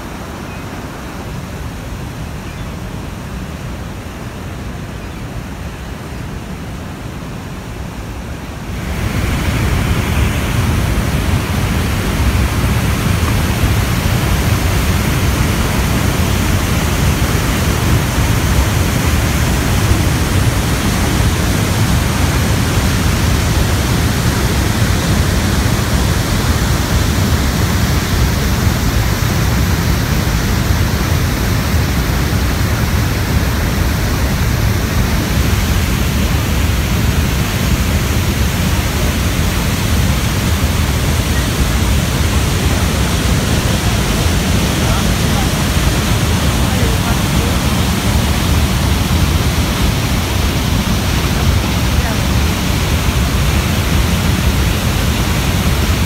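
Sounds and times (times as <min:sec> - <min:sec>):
waterfall crashing onto rocks: 0:08.5 - 0:56.0.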